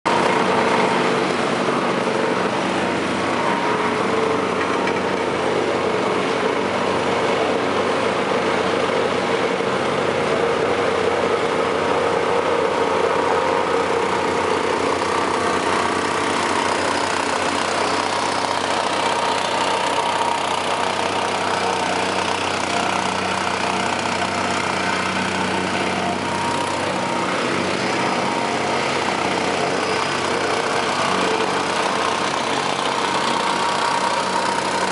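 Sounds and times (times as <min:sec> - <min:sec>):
diesel engine running steadily: 0:00.1 - 0:34.9.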